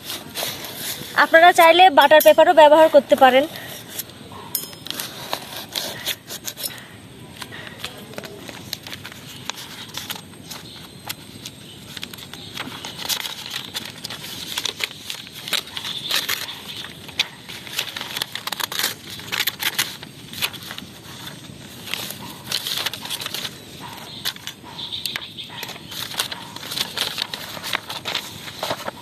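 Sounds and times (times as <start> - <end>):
paper rustling and crackling: 0.0 - 4.1, 4.9 - 29.0.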